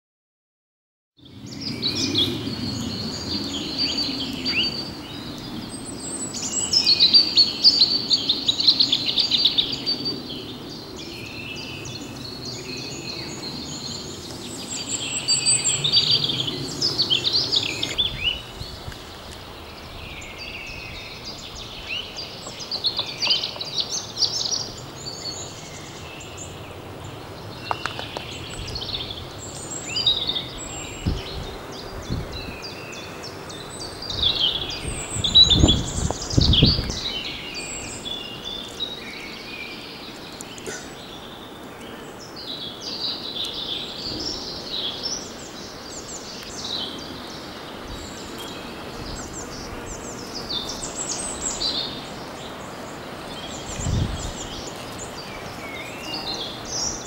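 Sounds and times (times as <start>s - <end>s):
small birds chirping: 1.2s - 57.0s.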